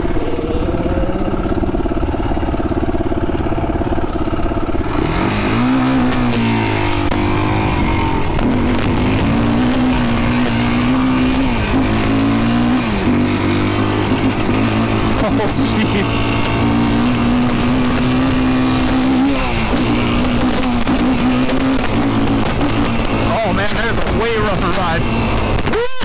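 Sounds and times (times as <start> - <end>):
quad engine revving: 0.0 - 26.0.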